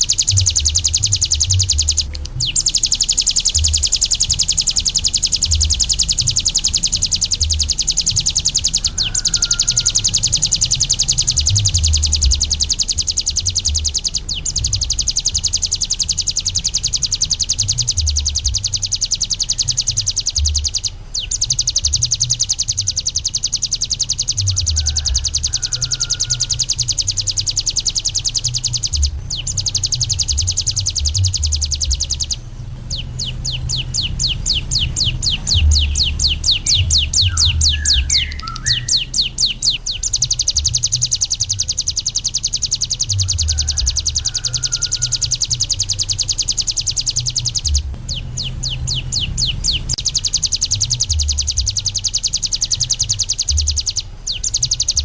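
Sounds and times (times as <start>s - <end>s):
songbird fast high trill: 0.0s - 55.0s.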